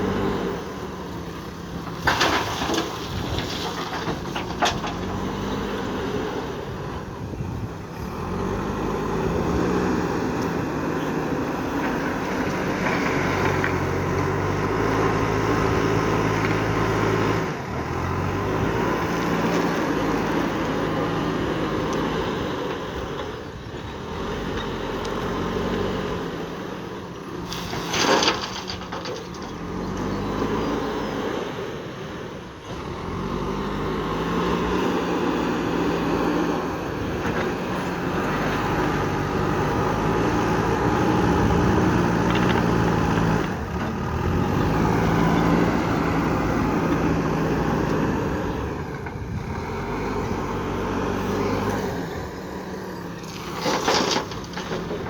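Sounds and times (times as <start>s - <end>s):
diesel engine working: 0.0s - 55.0s.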